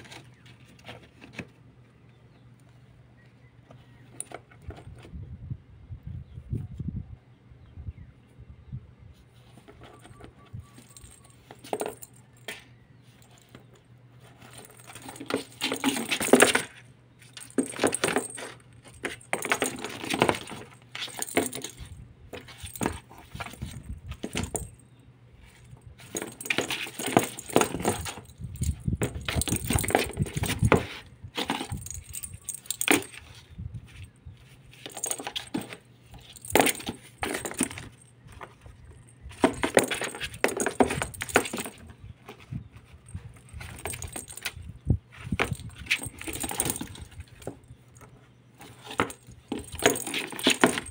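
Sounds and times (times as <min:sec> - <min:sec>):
ball rattling in cardboard box: 0:09.6 - 0:50.9.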